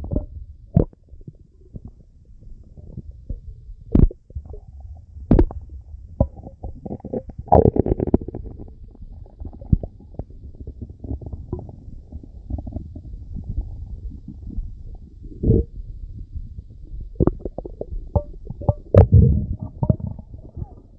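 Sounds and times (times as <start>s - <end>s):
stomach rumbling and gurgling: 0.0s - 20.9s.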